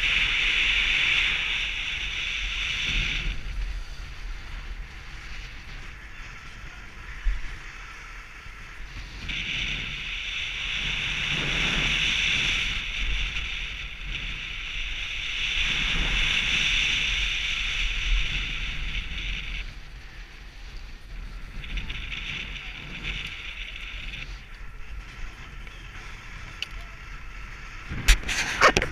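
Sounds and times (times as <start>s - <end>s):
skis sliding over snow: 0.0s - 28.9s
wind buffeting microphone: 0.0s - 28.9s.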